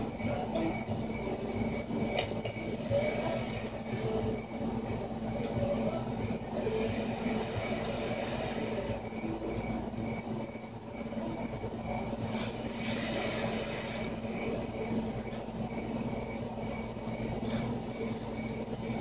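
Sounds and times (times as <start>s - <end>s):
insects chirping: 0.0s - 19.0s
low steady hum: 0.0s - 19.0s.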